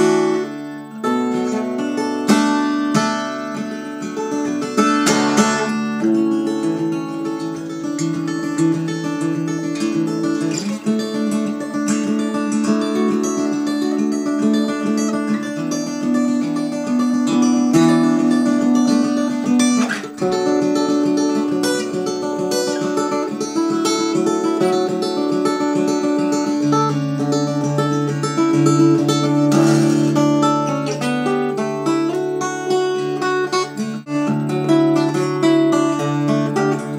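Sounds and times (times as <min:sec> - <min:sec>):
finger-picked acoustic guitar: 0:00.0 - 0:36.9.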